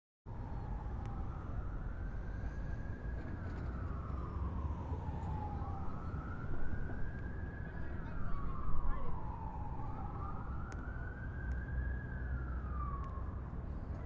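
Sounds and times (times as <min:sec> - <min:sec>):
siren wailing: 0:00.4 - 0:13.6.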